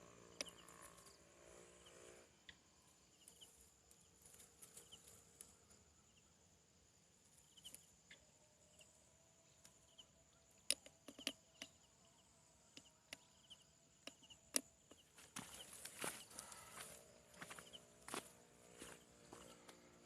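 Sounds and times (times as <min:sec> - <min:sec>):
insects droning and chirping: 0:00.0 - 0:20.0.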